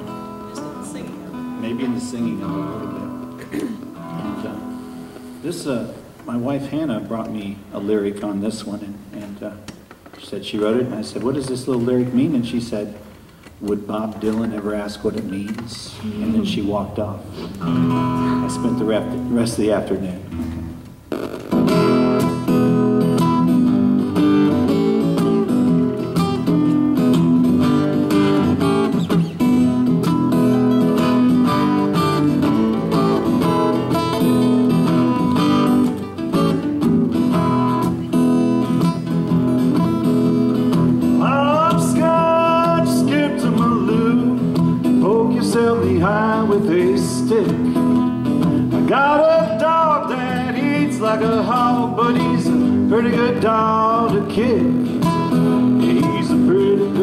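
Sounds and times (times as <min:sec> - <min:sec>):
acoustic guitars strumming: 0:00.0 - 0:57.0.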